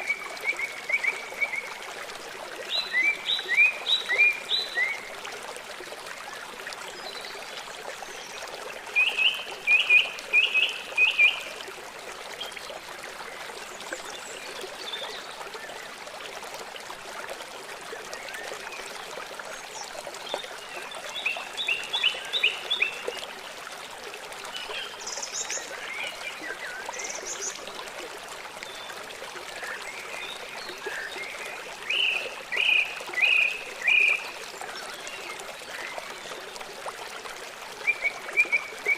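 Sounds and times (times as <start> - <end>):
trickle of running water: 0.0 - 38.9.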